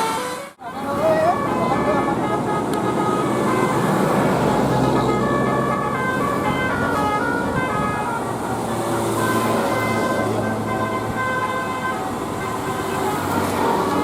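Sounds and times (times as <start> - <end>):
engine and road noise: 0.0 - 14.0
musical air horns playing a tune: 0.0 - 14.0.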